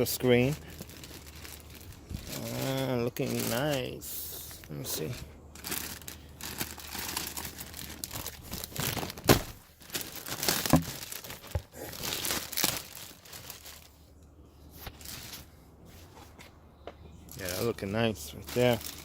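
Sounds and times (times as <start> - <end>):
packaging crinkling and rustling: 0.0 - 14.1, 14.8 - 16.3, 17.3 - 19.0.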